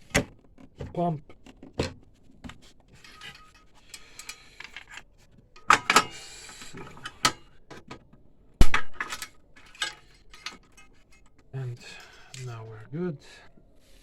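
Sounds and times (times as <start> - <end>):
connectors clicking and rustling: 0.0 - 12.9.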